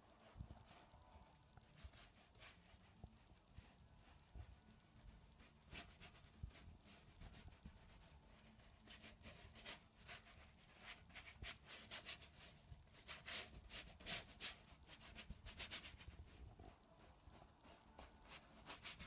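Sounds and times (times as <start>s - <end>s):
paintbrush scrubbing canvas: 3.6s - 19.0s.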